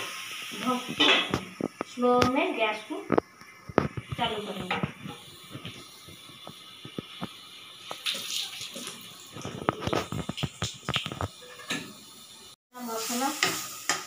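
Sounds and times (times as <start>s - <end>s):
masala frying crackling: 0.0s - 14.0s.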